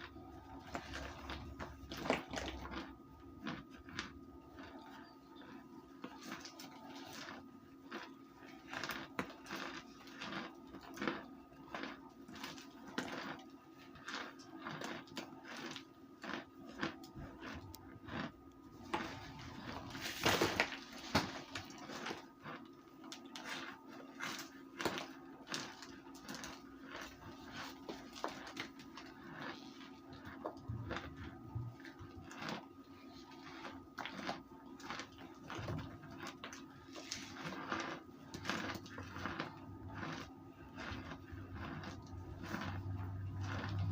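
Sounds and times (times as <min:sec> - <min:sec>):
crunching and chewing: 0:00.0 - 0:43.9.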